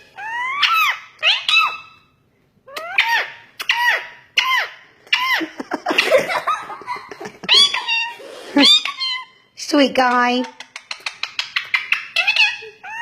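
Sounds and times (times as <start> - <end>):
parrot squeaky calls: 0.0 - 6.1, 7.5 - 9.5, 10.4 - 13.0.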